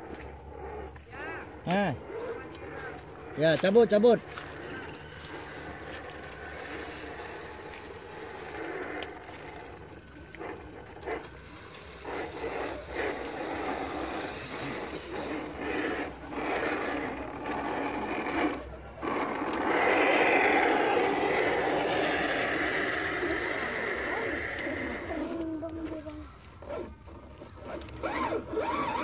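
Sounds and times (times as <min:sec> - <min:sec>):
toy trucks whirring through water: 0:00.0 - 0:29.0.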